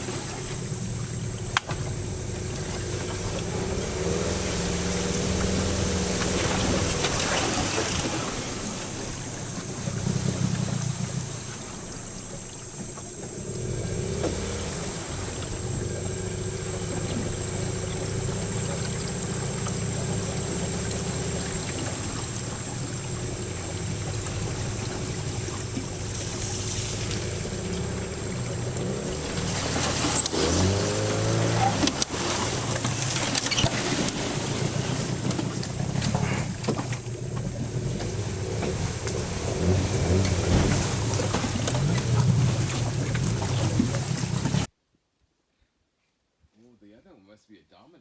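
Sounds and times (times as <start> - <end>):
outboard motor running: 0.0 - 44.7.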